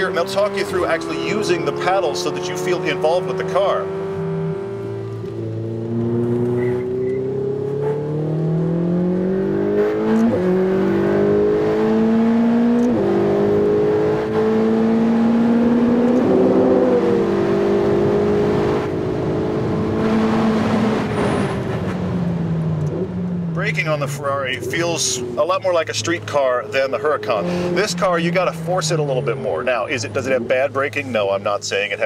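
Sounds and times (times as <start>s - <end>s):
sports car engine accelerating: 0.0s - 32.0s.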